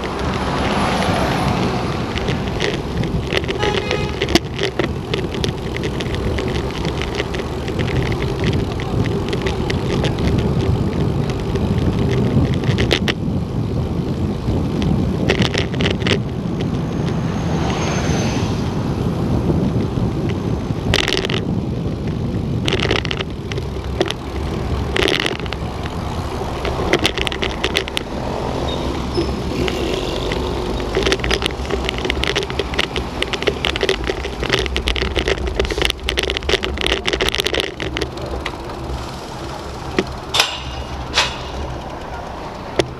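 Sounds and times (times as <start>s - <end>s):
rattles and clicks: 0.0s - 13.4s, 14.0s - 42.9s
vehicle engine rumble: 0.0s - 42.9s.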